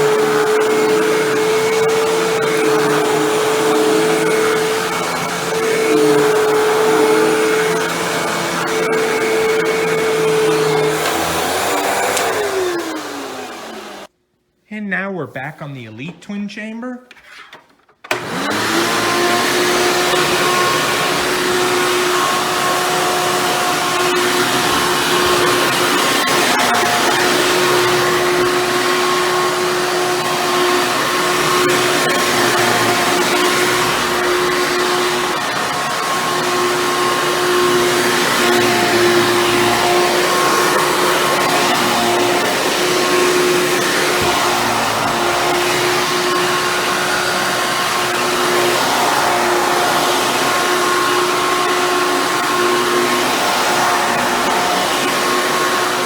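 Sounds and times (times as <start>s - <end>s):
vacuum cleaner running: 0.0s - 14.1s, 18.0s - 56.0s.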